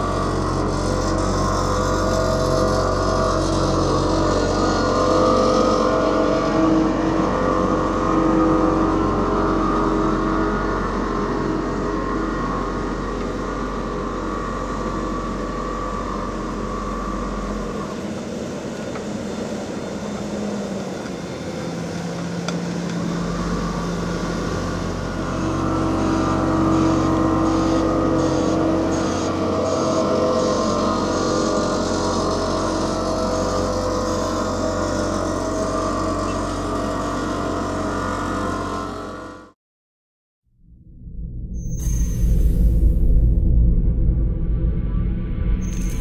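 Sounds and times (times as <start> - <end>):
diesel machinery engines droning: 0.0 - 39.5.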